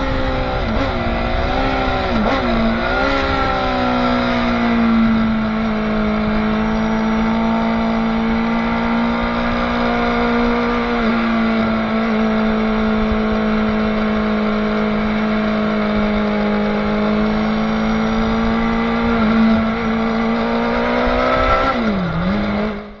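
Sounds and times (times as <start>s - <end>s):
motorcycle engine running hard: 0.0s - 23.0s.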